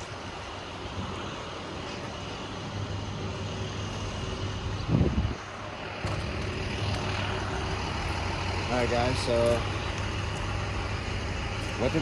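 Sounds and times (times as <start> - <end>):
outdoor noise: 0.0 - 12.0
vehicle engine idling: 0.0 - 12.0.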